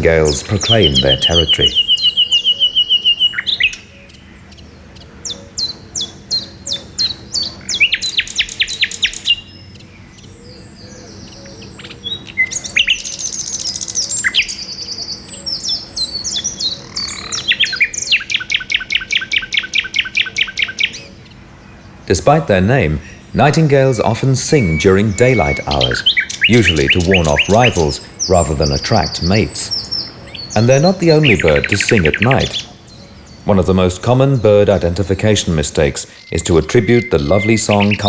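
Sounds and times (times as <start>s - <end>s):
nightingale singing: 0.0s - 38.0s.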